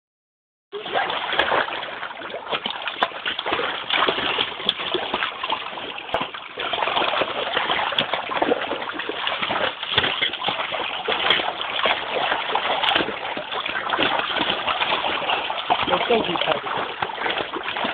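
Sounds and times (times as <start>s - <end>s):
dogs splashing in water: 0.7s - 17.9s.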